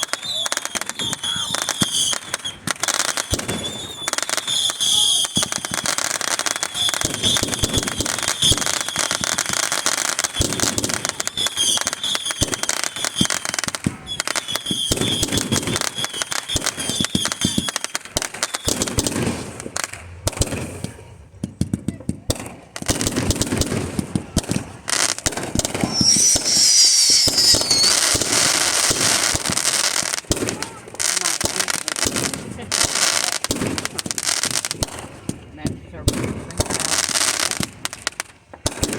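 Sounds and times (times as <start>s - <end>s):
fireworks crackling and popping: 0.0s - 38.9s
fireworks whistling: 0.0s - 38.9s.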